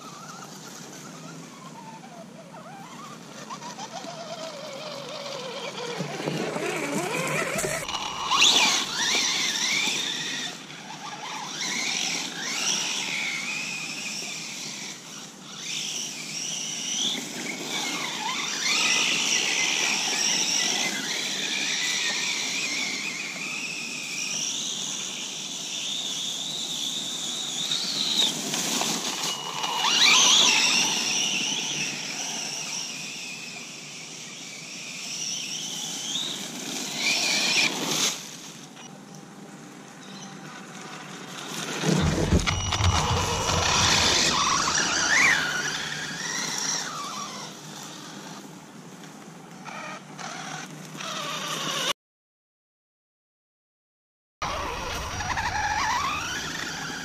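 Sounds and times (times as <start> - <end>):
rc car electric motor whining: 0.0 - 39.0, 40.0 - 51.9, 54.4 - 57.0.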